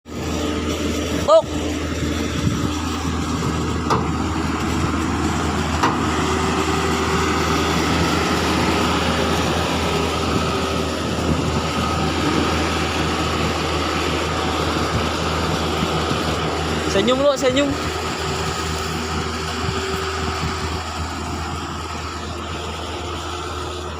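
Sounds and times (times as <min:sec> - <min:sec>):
diesel engines running: 0:00.0 - 0:23.9.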